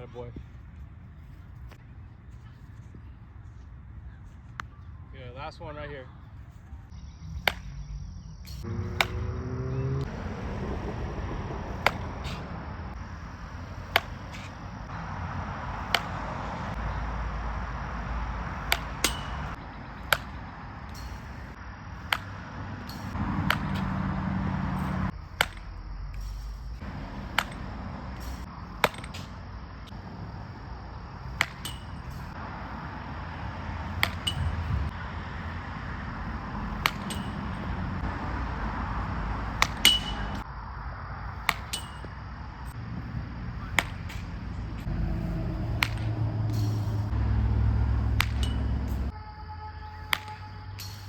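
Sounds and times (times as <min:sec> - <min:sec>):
baseball bat hitting balls: 0:06.4 - 0:49.2, 0:49.9 - 0:51.0.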